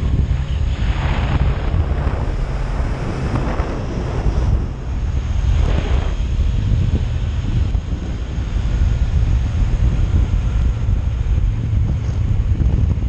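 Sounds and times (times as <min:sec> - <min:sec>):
motorcycle running: 0:00.0 - 0:13.0
wind buffeting microphone: 0:00.0 - 0:13.0.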